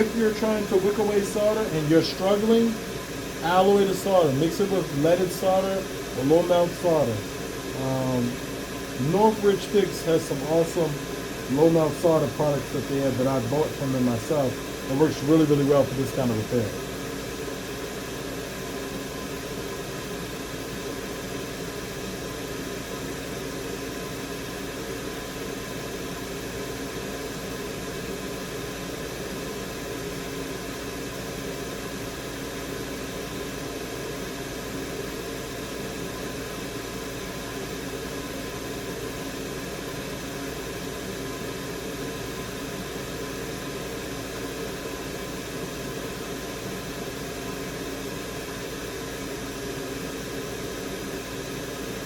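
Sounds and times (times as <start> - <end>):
extractor fan running: 0.0 - 52.0.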